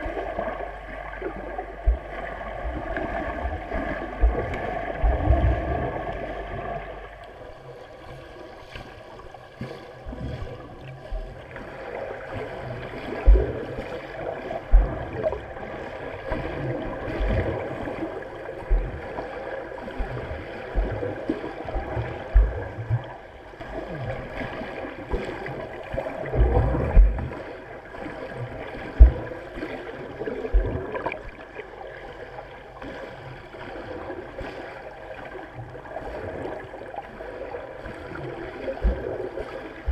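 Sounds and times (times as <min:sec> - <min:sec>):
low thumps of swimming strokes: 0:00.0 - 0:39.9
muffled underwater rush of water: 0:00.0 - 0:39.9.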